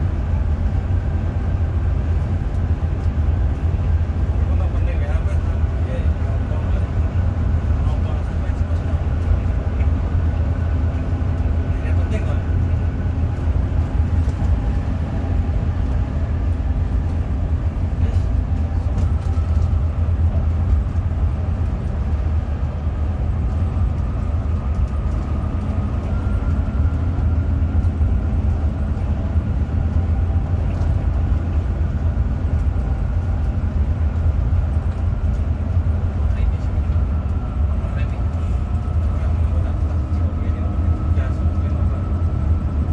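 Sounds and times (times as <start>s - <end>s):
coach engine and road rumble: 0.0s - 42.9s.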